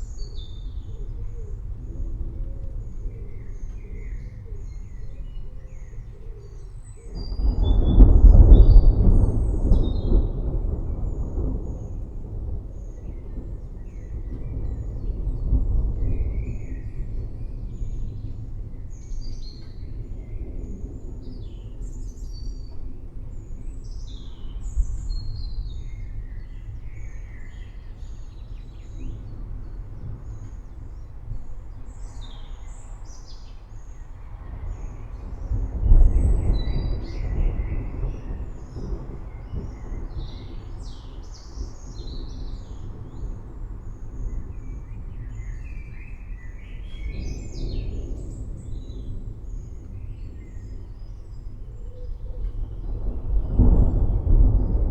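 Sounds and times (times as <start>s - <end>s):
low rumbling thunder: 0.0s - 54.9s.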